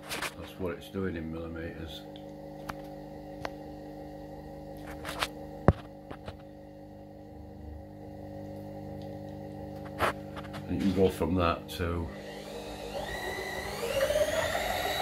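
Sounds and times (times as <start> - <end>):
power feed motor humming: 0.0 - 15.0.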